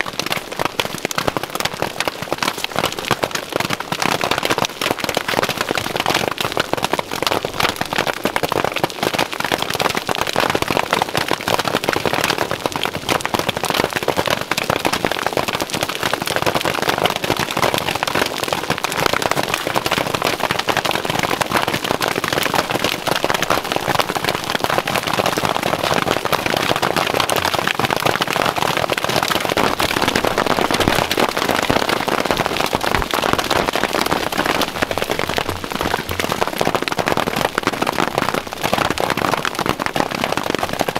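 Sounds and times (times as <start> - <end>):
hail clattering on ground: 0.0 - 40.9.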